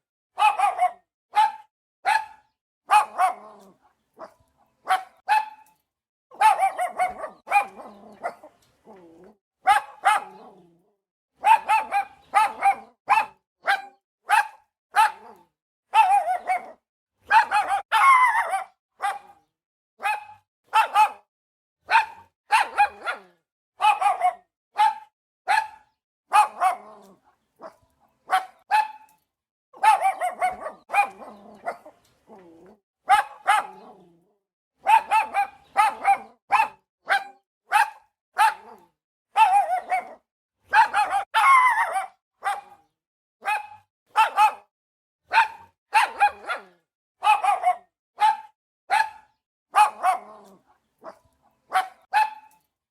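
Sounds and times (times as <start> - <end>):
dog barking: 0.4 - 9.0, 9.6 - 10.7, 11.4 - 29.2, 29.8 - 34.2, 34.8 - 52.6.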